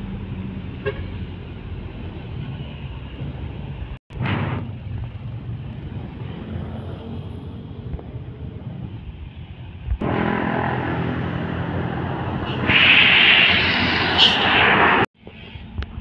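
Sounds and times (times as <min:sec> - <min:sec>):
motorbikes: 0:00.0 - 0:14.6
dump truck approaching: 0:00.0 - 0:15.1
truck diesel engine: 0:00.0 - 0:15.1.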